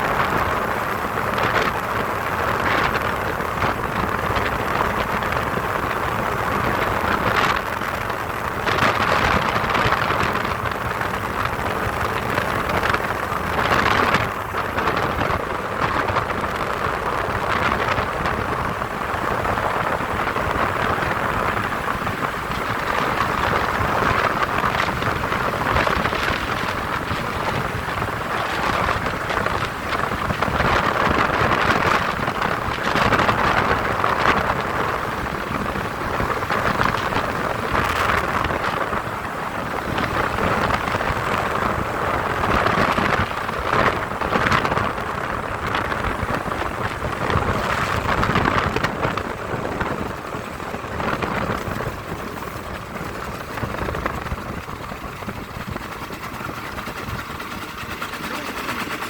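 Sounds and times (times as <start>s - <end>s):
aircraft engine: 0.0s - 59.0s
wind rushing on microphone: 0.0s - 59.0s.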